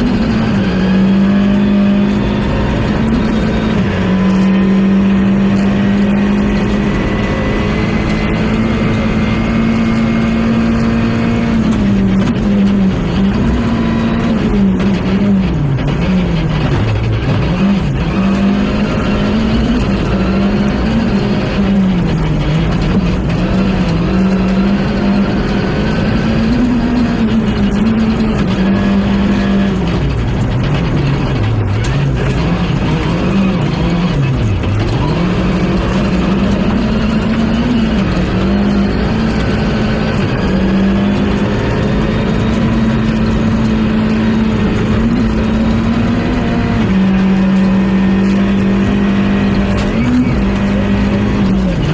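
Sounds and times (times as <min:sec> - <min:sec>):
rally car engine revving: 0:00.0 - 0:51.9
road and tyre noise: 0:00.0 - 0:51.9.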